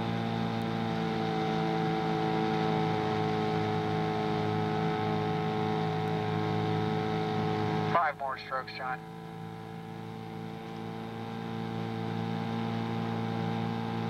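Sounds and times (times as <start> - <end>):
motorboat engine running: 0.0 - 14.0.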